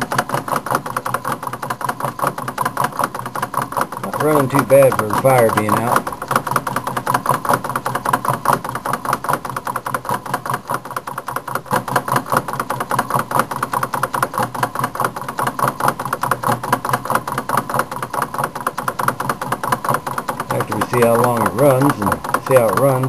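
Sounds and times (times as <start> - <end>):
small engine clicking rapidly: 0.0 - 23.0.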